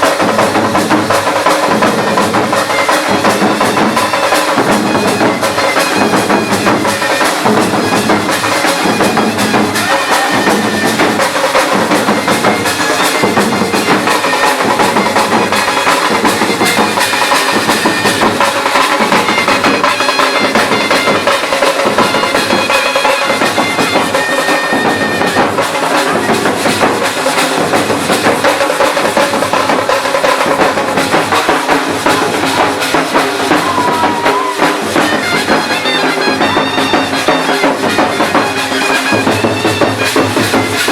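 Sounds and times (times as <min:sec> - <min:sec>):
cymbals: 0:00.0 - 0:40.9
loud fast drumming: 0:00.0 - 0:40.9
shehnai melody: 0:00.0 - 0:40.9.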